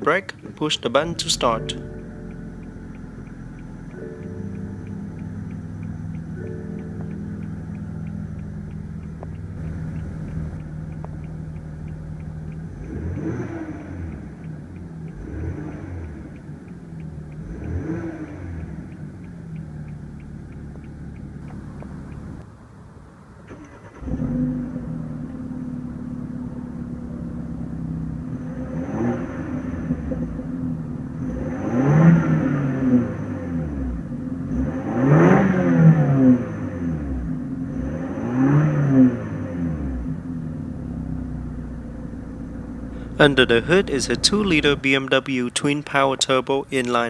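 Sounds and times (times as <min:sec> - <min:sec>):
car engine idling and revving: 0:01.4 - 0:22.6, 0:23.5 - 0:44.8.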